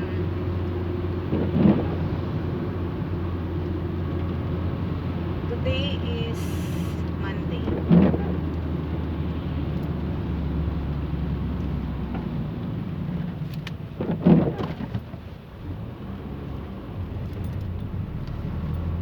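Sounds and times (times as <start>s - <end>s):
car engine and tyres drone: 0.0s - 19.0s.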